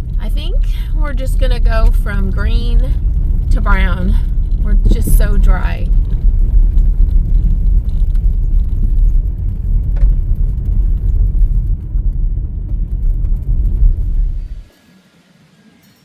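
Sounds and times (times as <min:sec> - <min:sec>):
car driving rumble: 0:00.0 - 0:14.8
road and wind noise: 0:00.0 - 0:14.8.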